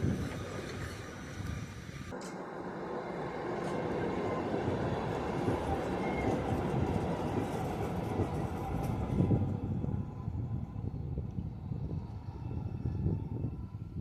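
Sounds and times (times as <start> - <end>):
tram rumbling along track: 0.0 - 14.0.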